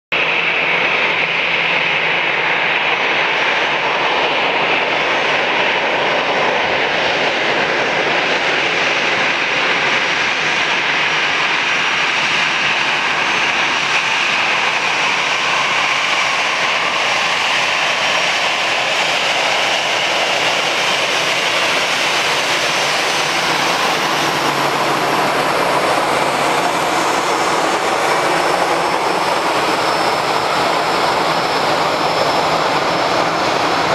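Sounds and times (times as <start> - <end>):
jet engines roaring: 0.1 - 33.9.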